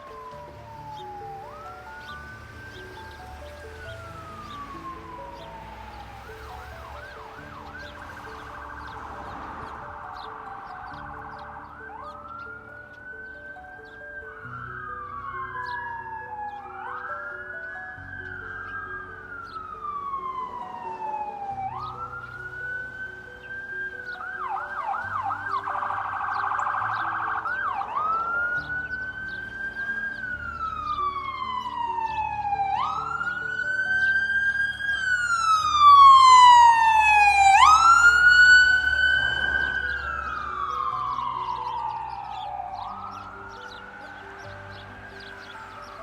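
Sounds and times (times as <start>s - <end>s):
emergency siren wailing: 0.0s - 46.0s.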